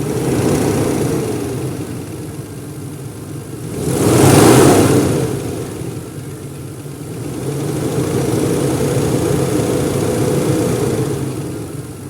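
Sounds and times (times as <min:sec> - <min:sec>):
car engine revving from idle: 0:00.0 - 0:12.0.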